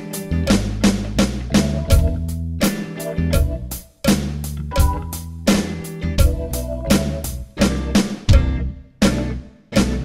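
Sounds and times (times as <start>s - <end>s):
backing track bass and chords: 0.0s - 10.0s
electronic drum kit groove: 0.0s - 10.0s.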